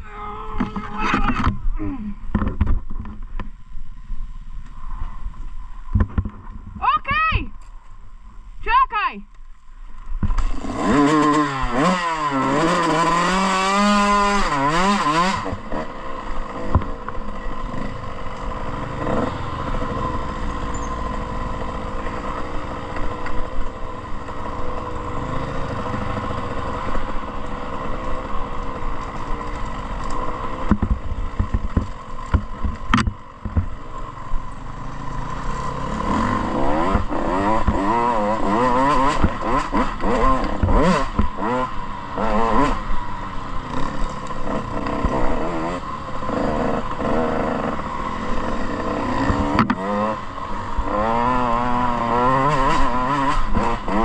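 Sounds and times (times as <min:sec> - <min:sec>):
dirt bike engine revving: 0:10.3 - 0:54.0.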